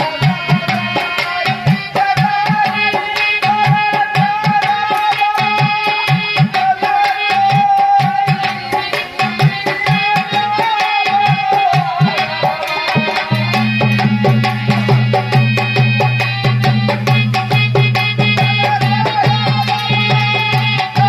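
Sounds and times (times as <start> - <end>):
dholak drum rhythm: 0.0 - 21.0.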